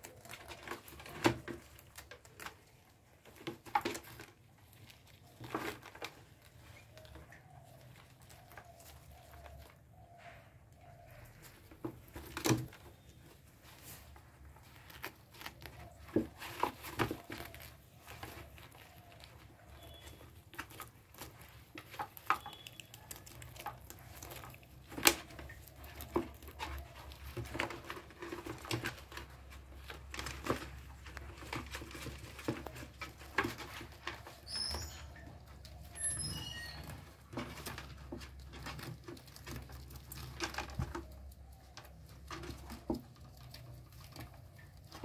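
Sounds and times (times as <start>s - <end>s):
rabbits eating leaves: 0.0s - 45.0s.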